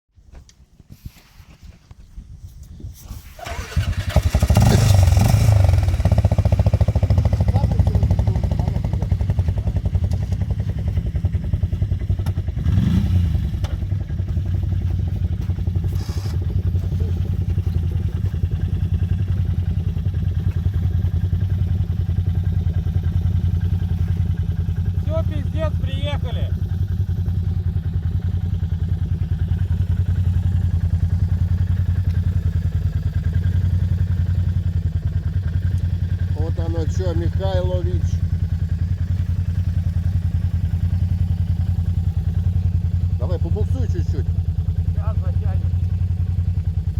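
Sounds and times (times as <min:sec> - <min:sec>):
atv engine revving: 0:03.4 - 0:46.9.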